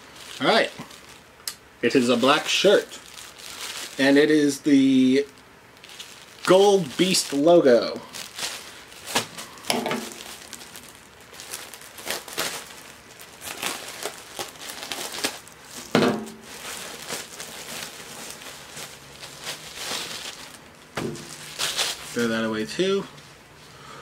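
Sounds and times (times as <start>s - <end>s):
plastic mailer crinkling: 0.0s - 1.3s, 1.9s - 22.6s.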